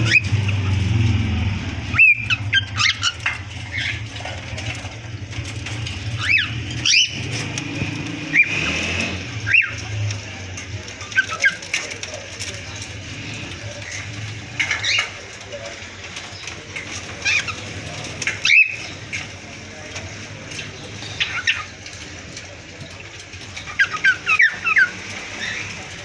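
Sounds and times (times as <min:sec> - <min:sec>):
cockatiels chirping: 0:00.0 - 0:26.0.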